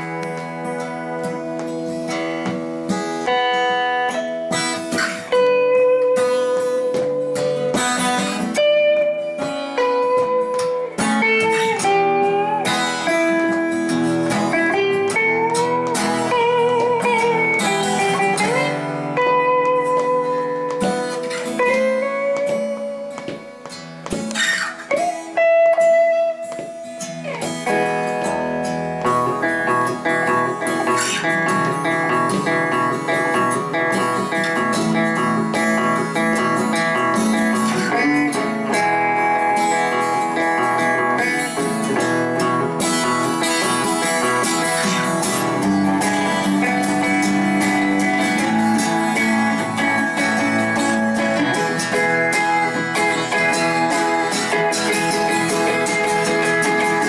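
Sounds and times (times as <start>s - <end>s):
acoustic guitar strumming: 0.0s - 57.0s
electric guitar blues lead: 0.0s - 57.0s.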